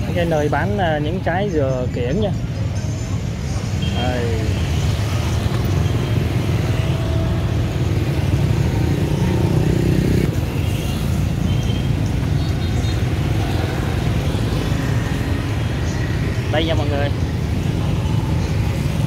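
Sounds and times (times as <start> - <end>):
motorbikes: 0.0 - 19.0
street traffic rumble: 0.0 - 19.0.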